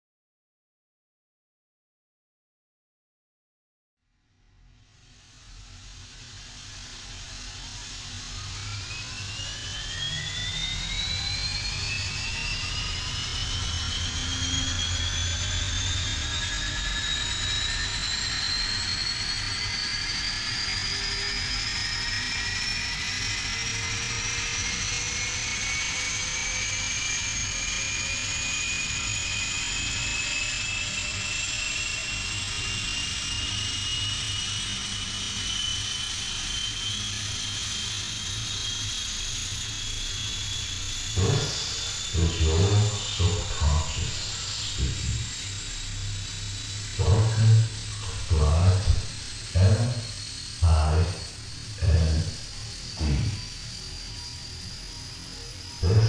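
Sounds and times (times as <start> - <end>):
jet engines spooling up: 4.9 - 56.0.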